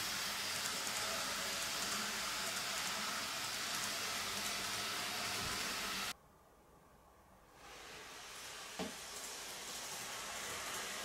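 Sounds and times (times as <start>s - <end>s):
model train wheels rolling hiss: 0.0s - 6.1s, 7.6s - 11.0s.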